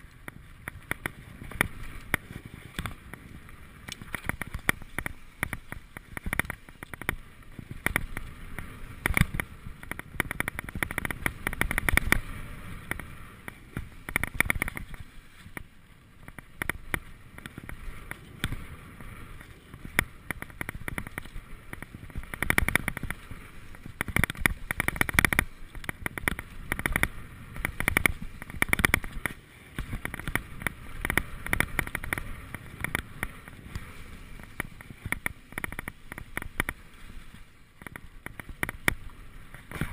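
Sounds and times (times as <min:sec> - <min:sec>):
mountain bike rattling on dirt trail: 0:00.0 - 0:39.9
wind rumbling on microphone: 0:00.0 - 0:39.9.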